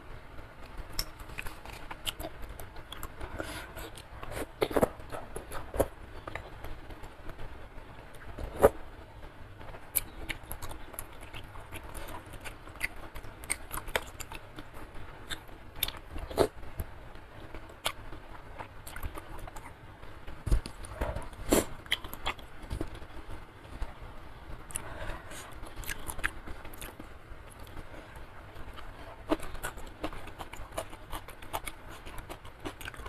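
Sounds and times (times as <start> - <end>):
chewing food: 0.9 - 7.4, 9.9 - 19.8, 20.5 - 23.2, 24.7 - 33.0.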